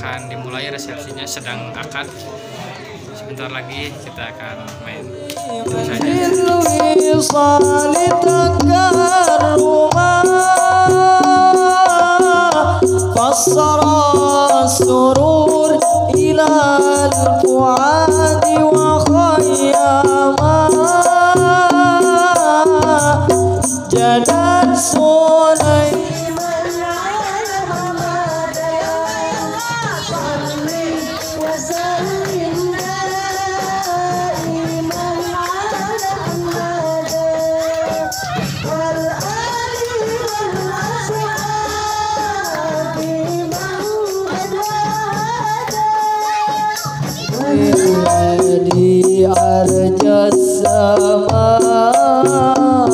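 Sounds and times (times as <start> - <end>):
person singing devotional song: 3.4 - 52.9
hand drum beats: 5.2 - 52.9
tambourine jingles: 5.5 - 52.9.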